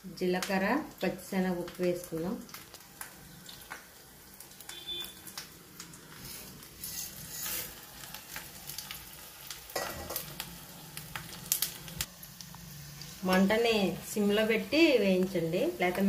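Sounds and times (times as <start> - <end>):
spices sizzling and popping in oil: 0.0 - 16.0.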